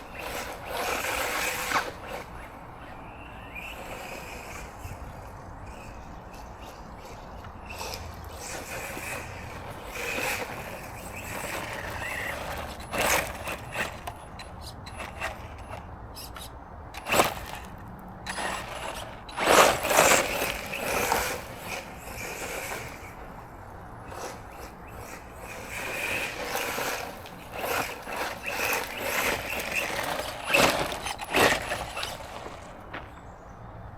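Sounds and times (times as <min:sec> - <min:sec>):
rc truck electric motor whining: 0:00.0 - 0:33.1.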